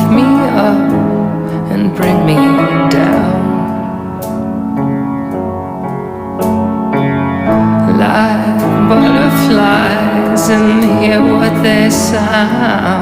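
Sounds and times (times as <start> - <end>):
song with held chords: 0.0 - 13.0.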